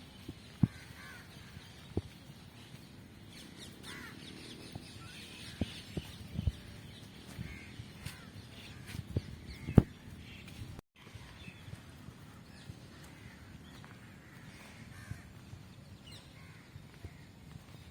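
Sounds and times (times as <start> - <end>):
birds calling: 0.0 - 17.9
outdoor background noise: 0.0 - 17.9.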